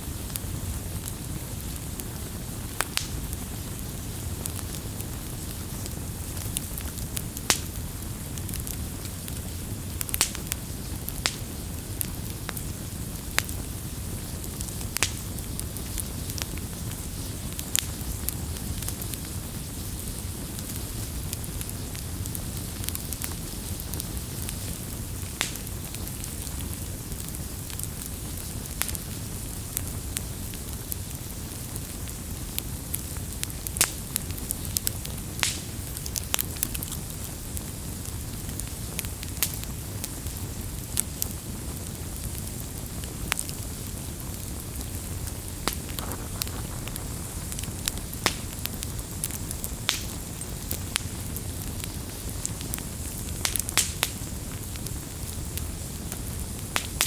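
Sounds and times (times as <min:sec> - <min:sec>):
sharp fire pops: 0:00.0 - 0:57.0
wood fire crackling: 0:00.0 - 0:57.0.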